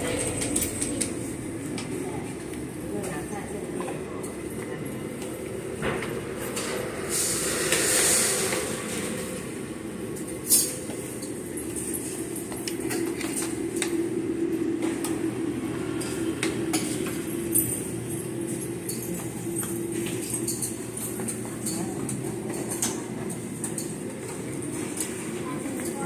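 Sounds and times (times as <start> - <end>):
utensils clinking on metal trays: 0.0 - 9.4, 10.1 - 15.2, 15.9 - 26.0
low hum of a busy room: 0.0 - 26.0.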